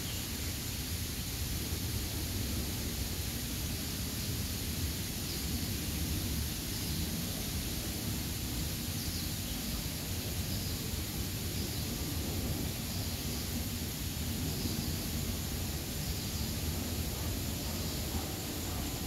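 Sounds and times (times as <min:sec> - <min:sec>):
high hiss: 0:00.0 - 0:19.0.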